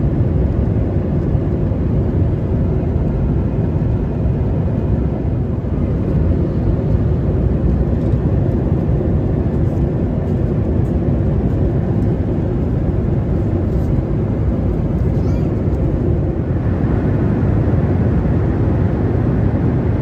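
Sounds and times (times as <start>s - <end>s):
aircraft cabin rumble: 0.0s - 20.0s.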